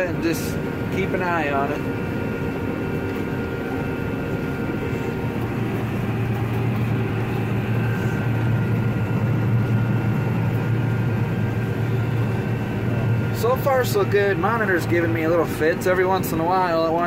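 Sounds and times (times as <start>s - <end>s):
combine harvester drone: 0.0s - 17.0s.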